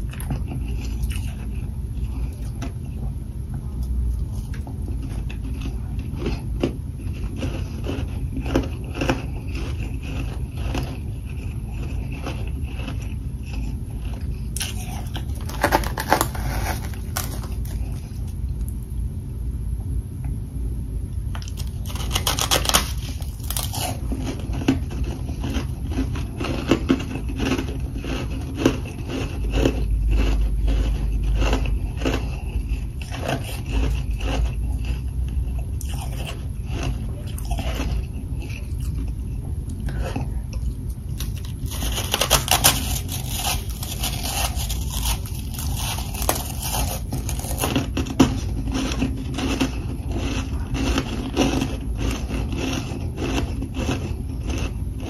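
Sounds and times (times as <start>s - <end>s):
crunching frost being chewed: 0.0s - 18.9s, 21.3s - 55.0s.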